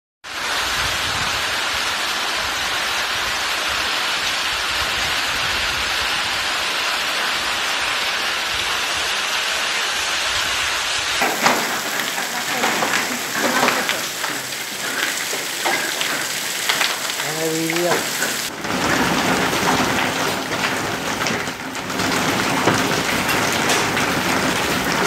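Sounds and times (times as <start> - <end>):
heavy rain and hail: 0.2 - 25.0.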